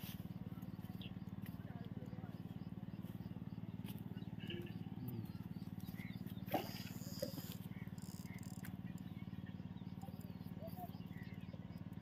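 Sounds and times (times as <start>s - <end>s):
low pulsing motor drone: 0.0s - 12.0s.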